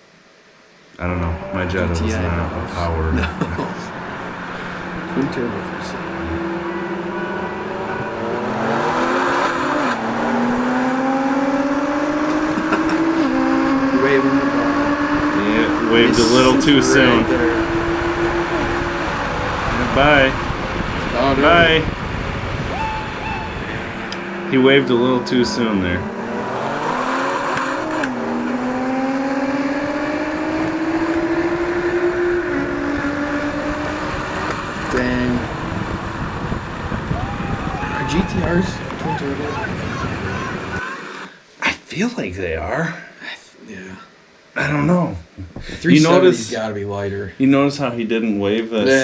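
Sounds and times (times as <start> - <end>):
car engine accelerating hard: 1.0 - 41.3.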